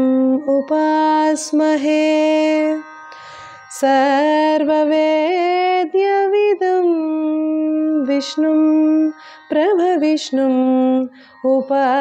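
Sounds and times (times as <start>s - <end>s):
woman singing devotional verse: 0.0s - 2.8s, 3.7s - 12.0s.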